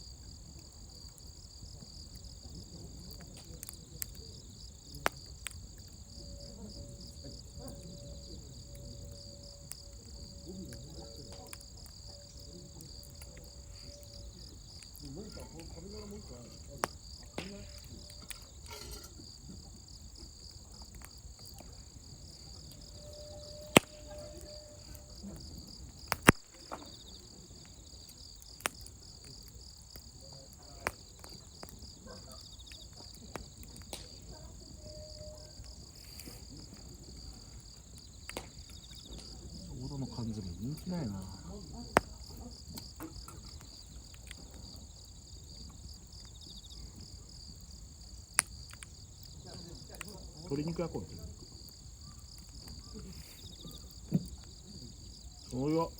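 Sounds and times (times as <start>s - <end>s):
campfire crackling: 0.0s - 55.9s
insects chirring: 0.0s - 55.9s.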